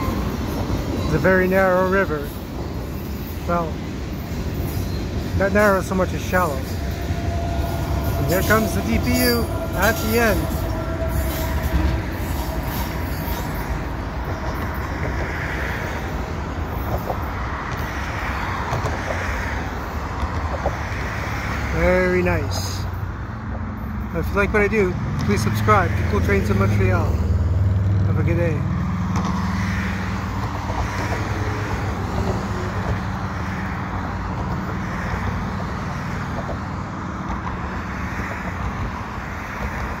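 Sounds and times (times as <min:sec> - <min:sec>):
cars passing close by: 0:00.0 - 0:40.0
freight train rumbling: 0:00.0 - 0:40.0
road traffic rumble: 0:00.0 - 0:40.0.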